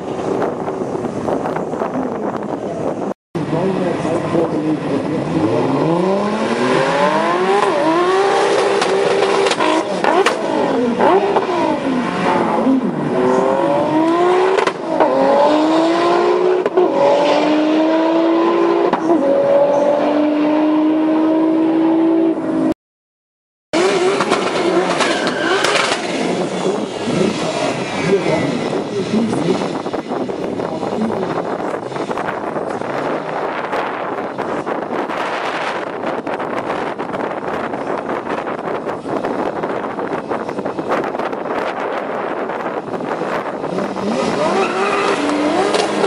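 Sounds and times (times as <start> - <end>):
turbocharged car engine accelerating: 3.4 - 22.7, 23.8 - 46.0.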